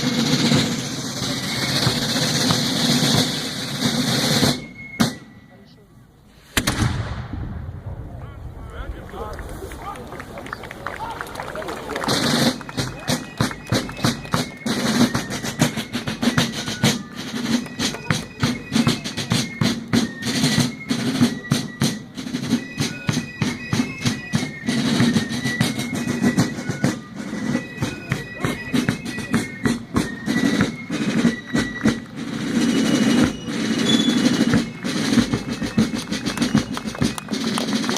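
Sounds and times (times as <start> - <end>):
snare drum strokes: 0.0 - 5.3, 12.1 - 37.9.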